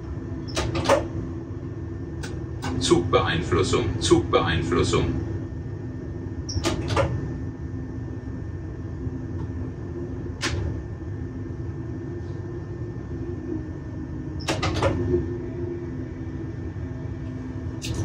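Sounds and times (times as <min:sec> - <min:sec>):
train cab running hum: 0:00.0 - 0:18.0.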